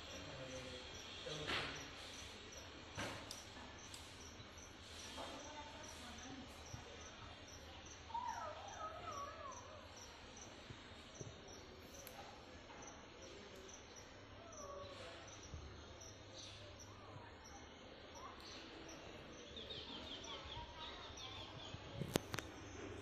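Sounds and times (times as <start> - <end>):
high insect chirp: 0.0 - 22.9.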